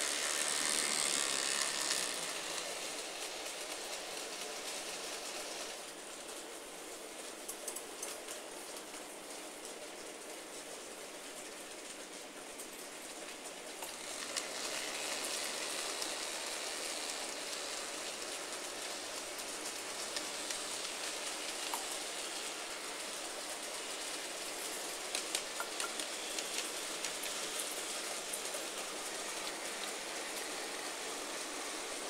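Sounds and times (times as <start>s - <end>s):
model trains rattling on track: 0.0s - 32.0s.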